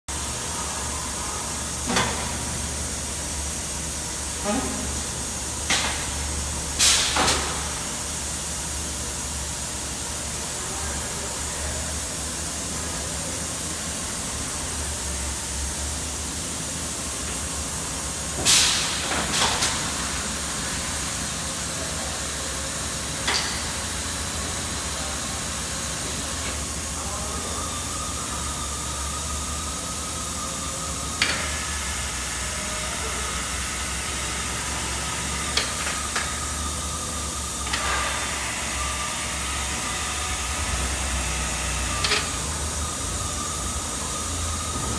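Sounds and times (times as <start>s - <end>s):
machine hum and hiss: 0.1s - 44.9s.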